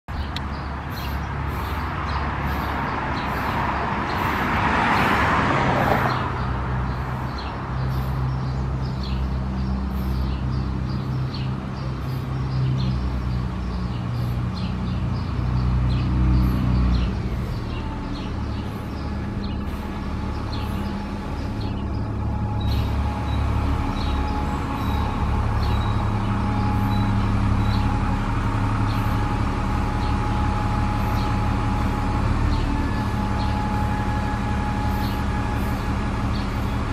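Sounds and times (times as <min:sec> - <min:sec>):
bus diesel engine humming: 0:00.1 - 0:36.9
vehicle passing: 0:00.1 - 0:36.9.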